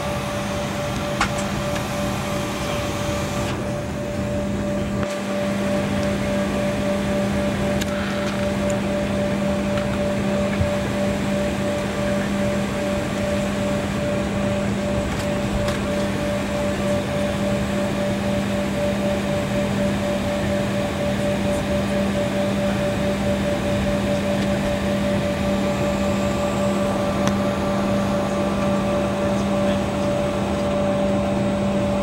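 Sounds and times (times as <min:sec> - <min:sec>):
higher steady hum: 0:00.0 - 0:32.0
jet engines rushing: 0:00.0 - 0:32.0.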